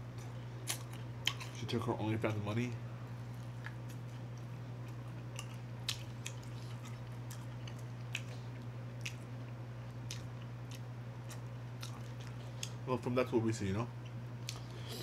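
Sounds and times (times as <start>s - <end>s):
steady low hum: 0.0s - 15.0s
chewing and wet mouth sounds: 0.1s - 1.8s, 3.2s - 12.8s, 14.0s - 15.0s.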